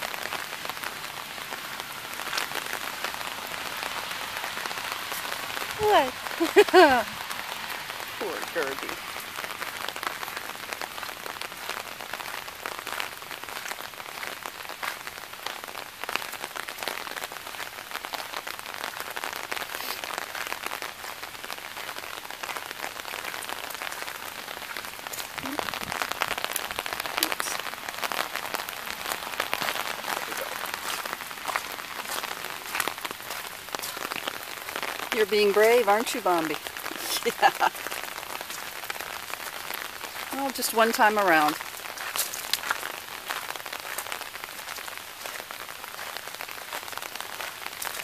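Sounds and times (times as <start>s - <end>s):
rain pattering: 0.0s - 48.0s.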